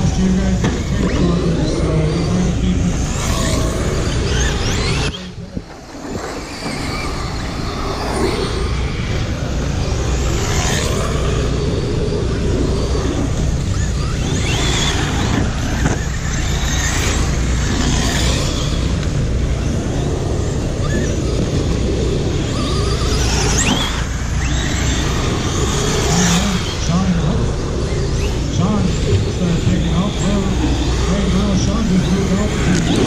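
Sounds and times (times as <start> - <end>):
radio-controlled car motors whining: 0.0 - 33.0
steady low rumble: 0.0 - 33.0.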